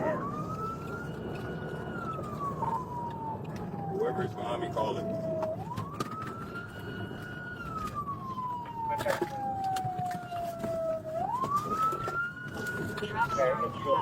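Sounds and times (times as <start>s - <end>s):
car road and engine noise: 0.0s - 14.0s
police siren wailing: 0.0s - 14.0s.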